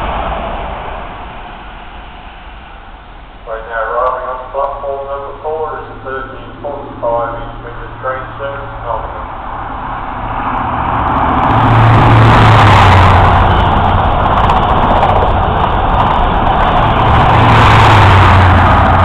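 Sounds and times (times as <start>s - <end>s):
diesel engine drone: 0.0s - 19.0s
train wheels and air rushing: 0.0s - 19.0s.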